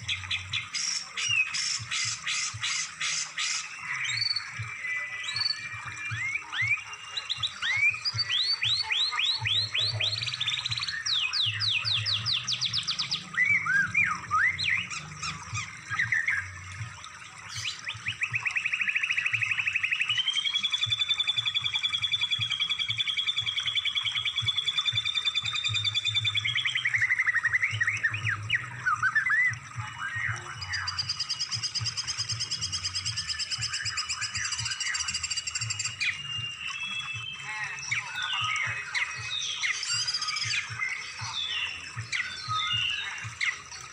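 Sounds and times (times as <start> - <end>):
fast bird trill: 0.0 - 16.6, 17.4 - 43.9
songbird song: 0.0 - 43.9.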